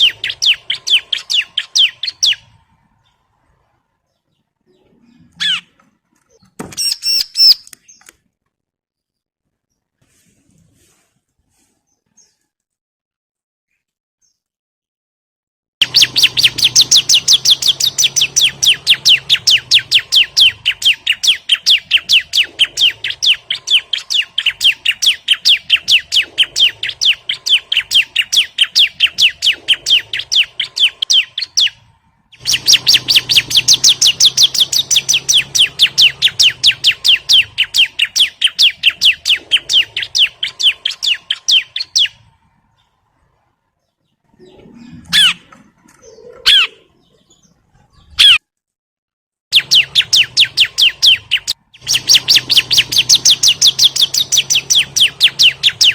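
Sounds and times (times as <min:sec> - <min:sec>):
bird song of sharp high chirps: 0:00.0 - 0:08.3, 0:13.7 - 0:14.5, 0:15.8 - 0:48.4, 0:49.5 - 0:55.9.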